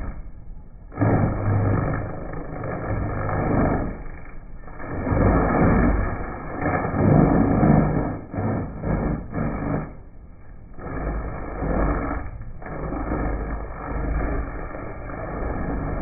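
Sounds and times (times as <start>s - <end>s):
low machine rumble: 0.0s - 16.0s
log-processing machine grinding: 0.9s - 10.1s, 10.7s - 16.0s.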